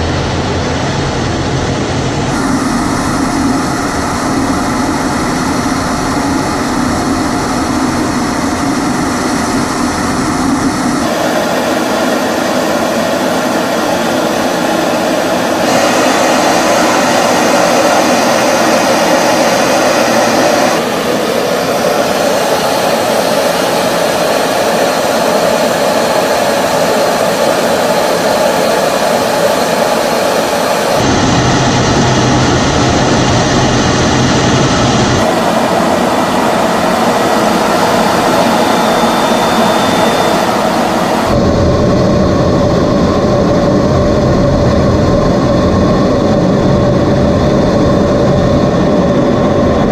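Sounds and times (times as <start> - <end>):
jet engine and rushing airflow: 0.0 - 49.9.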